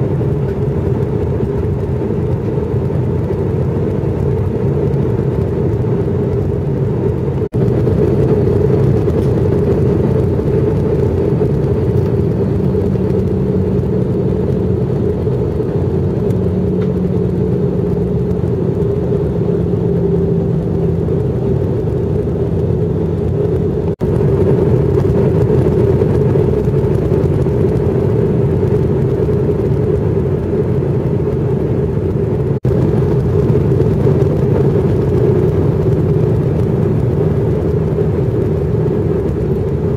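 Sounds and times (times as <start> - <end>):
jet engine rumble and airflow: 0.0 - 39.9.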